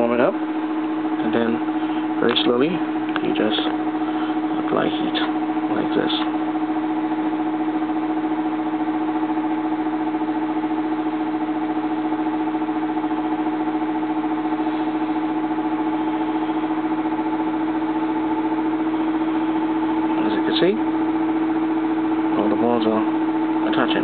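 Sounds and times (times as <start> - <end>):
hot-air blower hum and hiss: 0.0 - 24.0.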